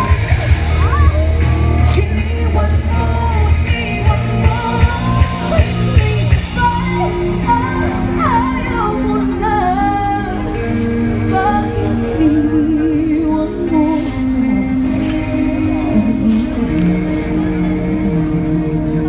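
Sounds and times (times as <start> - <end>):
live rock band playing: 0.0 - 19.0
person singing: 0.0 - 19.0.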